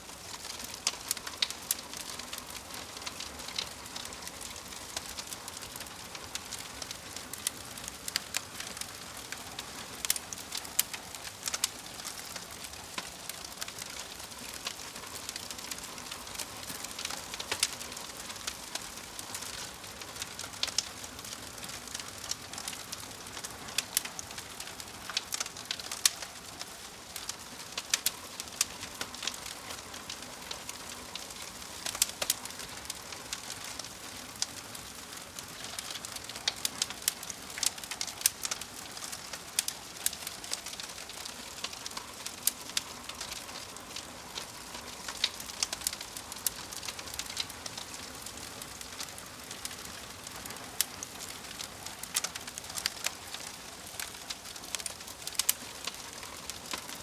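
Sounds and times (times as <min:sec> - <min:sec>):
log fire crackling: 0:00.0 - 0:57.0.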